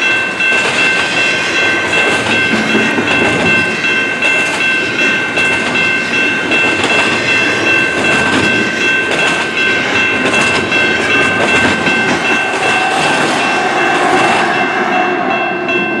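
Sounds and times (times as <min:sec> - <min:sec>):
wheels clacking over rail joints: 0:00.0 - 0:15.3.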